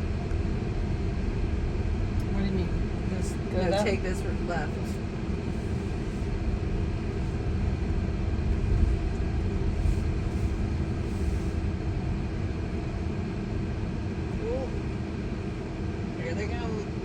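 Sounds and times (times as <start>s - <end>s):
low hum: 0.0s - 17.0s
road and tyre rumble: 0.0s - 17.0s.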